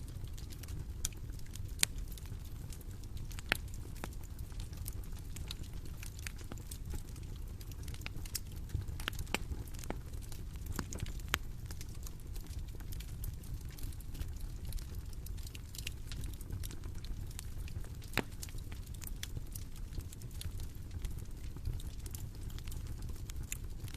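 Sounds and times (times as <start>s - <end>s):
bonfire rumble: 0.0s - 23.9s
burning wood popping: 0.0s - 23.9s.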